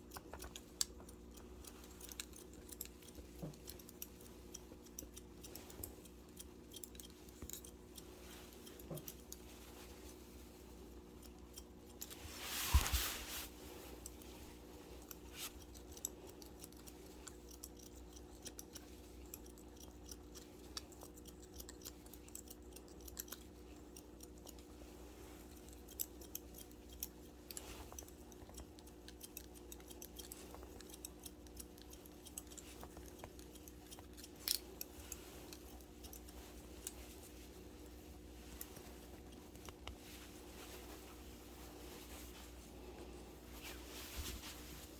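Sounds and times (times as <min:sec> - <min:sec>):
shears snipping hair: 0:00.0 - 0:42.7
faint steady hum: 0:00.0 - 0:44.9.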